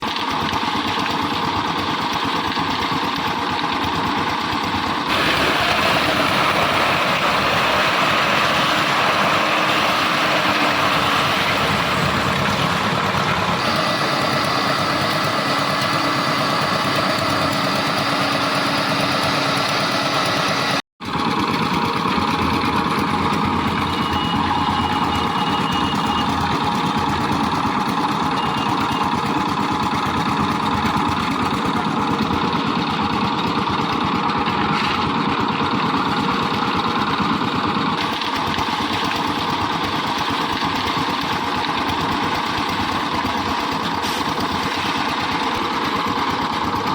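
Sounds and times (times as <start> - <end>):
concrete mixer engine running: 0.0 - 46.9.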